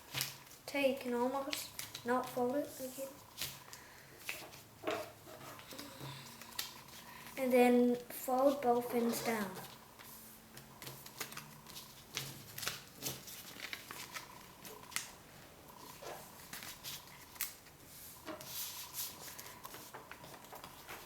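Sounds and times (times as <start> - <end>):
paper crinkling and rustling: 0.0 - 7.4, 8.0 - 15.2, 15.8 - 21.0.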